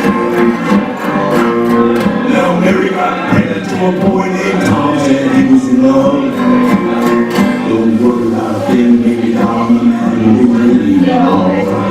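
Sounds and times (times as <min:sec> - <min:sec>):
strummed guitar: 0:00.0 - 0:11.9.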